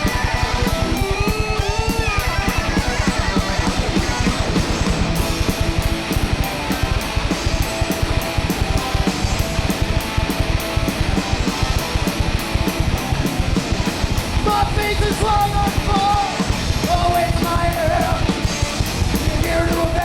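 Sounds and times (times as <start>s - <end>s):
electric guitar: 0.0s - 20.0s
fast drumbeat: 0.0s - 20.0s.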